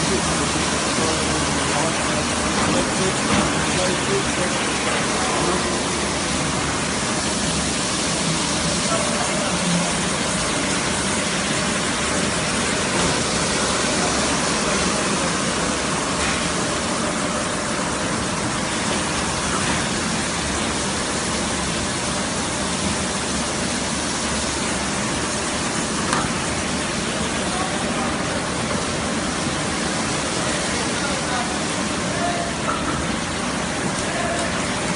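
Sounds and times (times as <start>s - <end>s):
carpet washing machine running: 0.0s - 34.9s.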